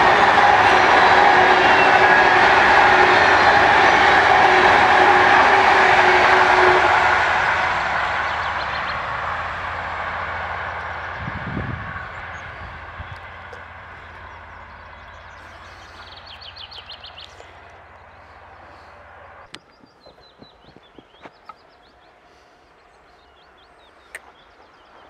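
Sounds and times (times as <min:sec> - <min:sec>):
steady low hum: 0:00.0 - 0:25.0
train rumble: 0:00.0 - 0:25.0.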